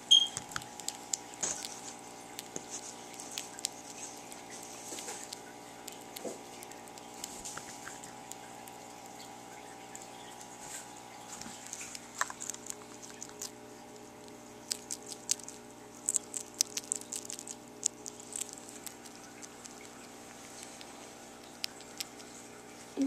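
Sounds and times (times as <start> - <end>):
small animal crunching food: 0.0 - 23.0.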